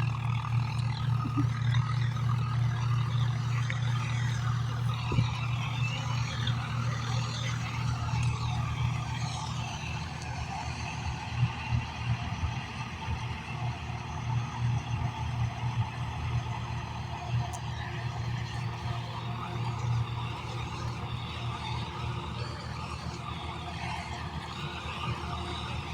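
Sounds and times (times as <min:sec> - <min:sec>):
tractor diesel engine droning: 0:00.0 - 0:25.9.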